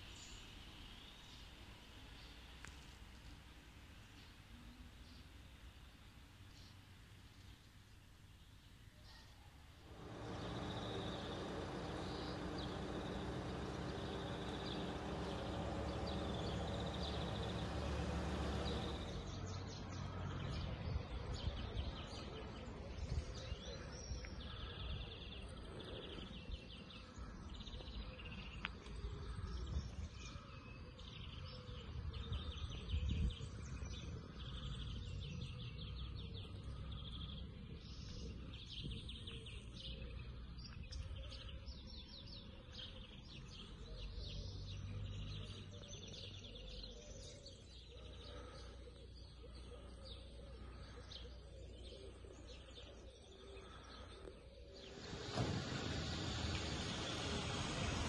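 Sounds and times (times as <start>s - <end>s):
birds chirping and singing: 7.4s - 58.0s.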